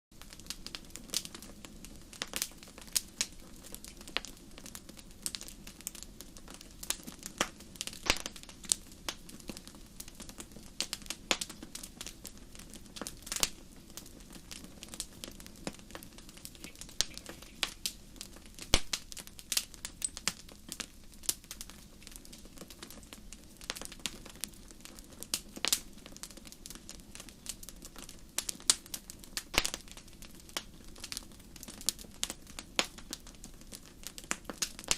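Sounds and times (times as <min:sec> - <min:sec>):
fire crackling: 0:00.2 - 0:34.9.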